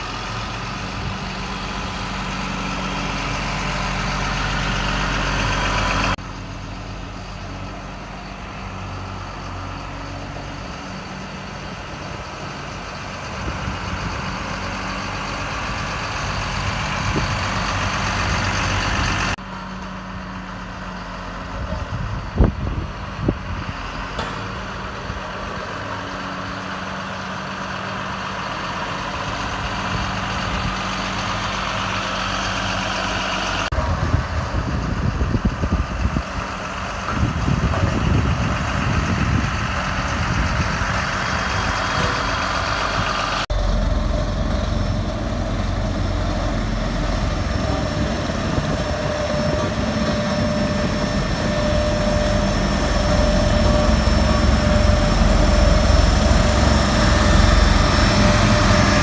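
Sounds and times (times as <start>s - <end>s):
road roller diesel engine: 0.0s - 59.0s.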